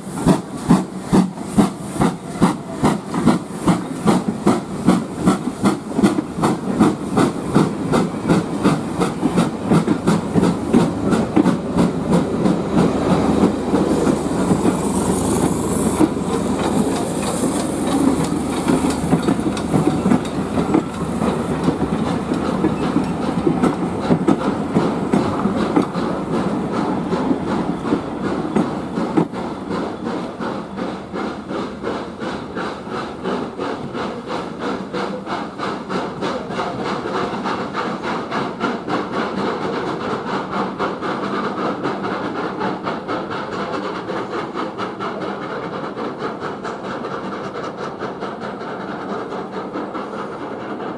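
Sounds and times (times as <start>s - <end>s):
train wheels clicking over rail joints: 0.0s - 50.9s.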